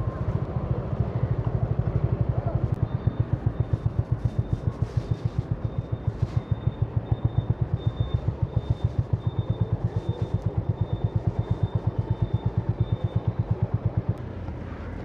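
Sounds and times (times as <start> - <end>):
low steady rumble: 0.0 - 15.0
motorcycle engine idling: 0.0 - 15.0.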